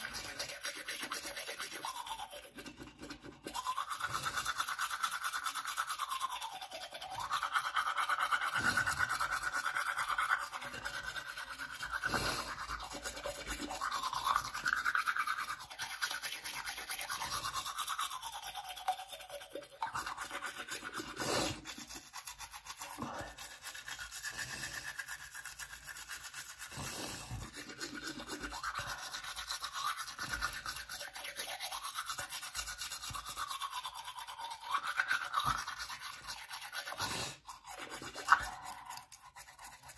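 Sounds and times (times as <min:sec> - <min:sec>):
toothbrush scrubbing teeth: 0:00.0 - 0:39.9.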